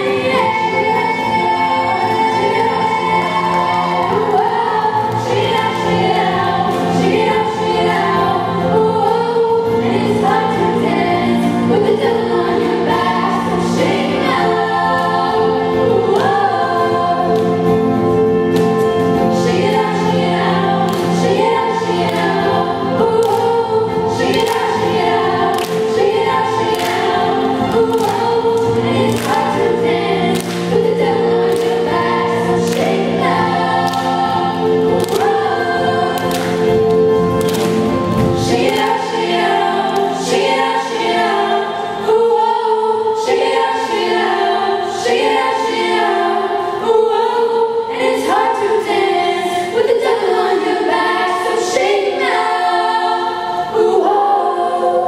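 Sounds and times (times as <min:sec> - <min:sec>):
band with guitars and keyboard: 0:00.0 - 0:54.8
women singing in harmony: 0:00.0 - 0:55.0.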